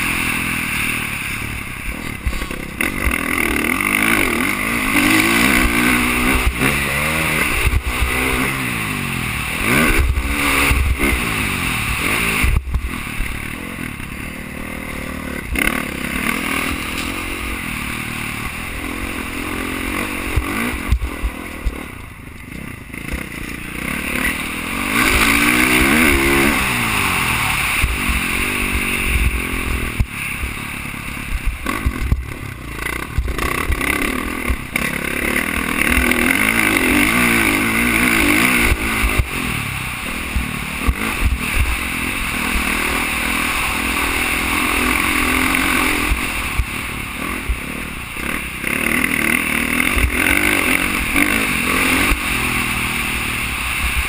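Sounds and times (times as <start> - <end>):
dirt bike engine revving: 0.0 - 54.0
wind and track noise: 0.0 - 54.0.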